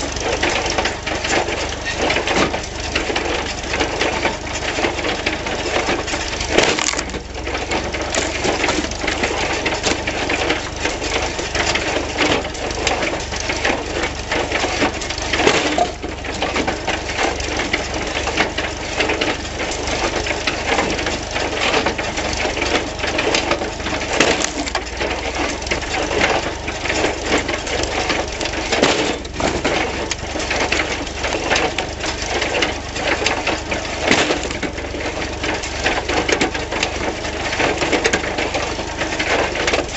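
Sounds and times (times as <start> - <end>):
wood splitter mechanical clatter: 0.0 - 39.9
wood splitting cracks: 0.1 - 39.9.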